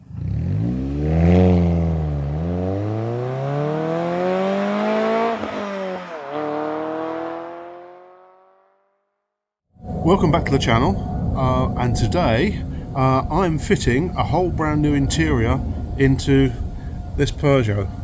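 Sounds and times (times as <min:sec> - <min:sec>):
car engine accelerating: 0:00.0 - 0:08.8, 0:09.8 - 0:18.0.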